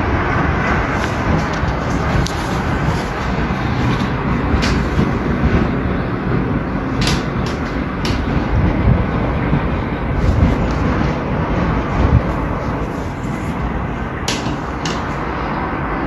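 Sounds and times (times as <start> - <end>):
gale wind rumbling: 0.0 - 16.0.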